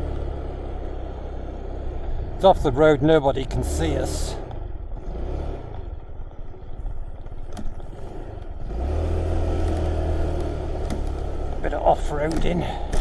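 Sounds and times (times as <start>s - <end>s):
motor scooter engine: 0.0s - 13.0s.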